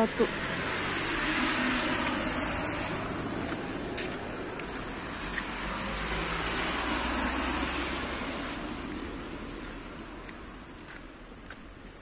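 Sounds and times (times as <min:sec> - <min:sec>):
footsteps on slushy pavement: 0:00.0 - 0:12.0
vehicle low rumble: 0:00.0 - 0:12.0
tyre hiss on wet road: 0:00.4 - 0:10.4.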